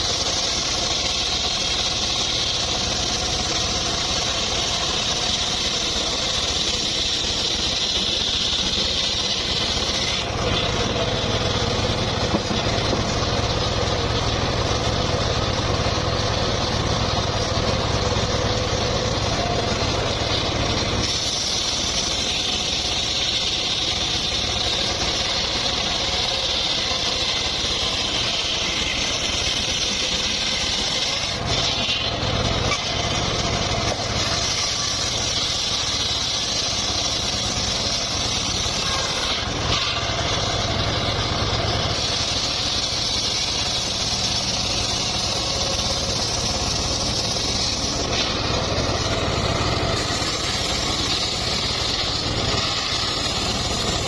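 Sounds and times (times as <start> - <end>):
wood saw engine running: 0.0 - 54.0.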